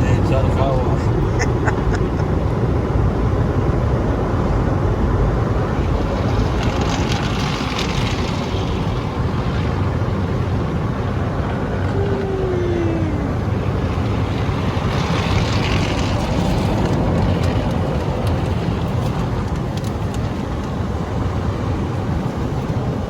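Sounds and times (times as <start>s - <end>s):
car wash water spray and machinery: 0.0s - 23.0s.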